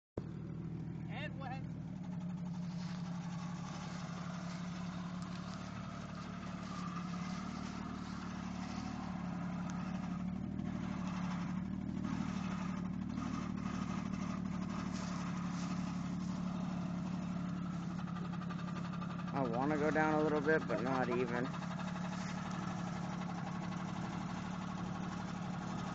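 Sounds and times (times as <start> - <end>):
engine running at low revs: 0.2 - 25.9.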